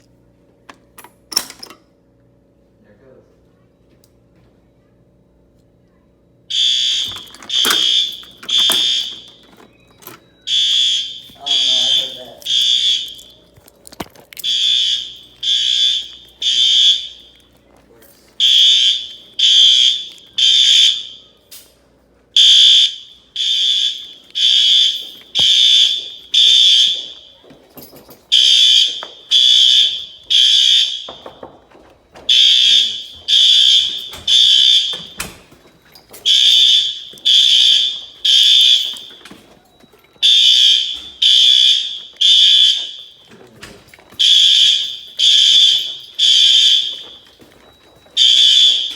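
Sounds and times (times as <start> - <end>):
fire alarm bell ringing: 6.5 - 13.5, 14.4 - 48.9.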